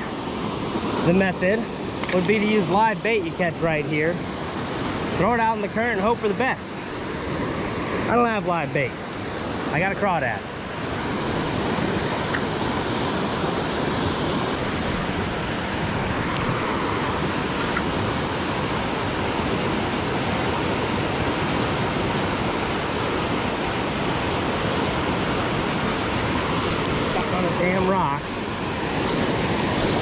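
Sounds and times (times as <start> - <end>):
creek water rushing: 0.0 - 30.0.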